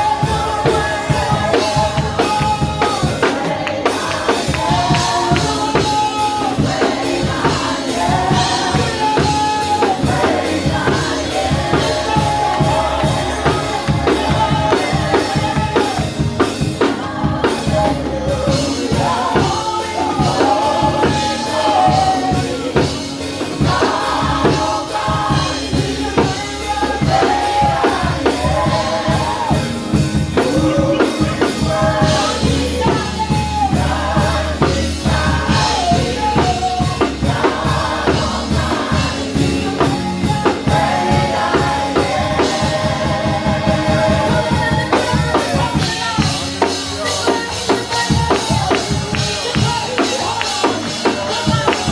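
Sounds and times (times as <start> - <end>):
drum kit beat: 0.0 - 51.9
worship singing with band: 0.0 - 51.9.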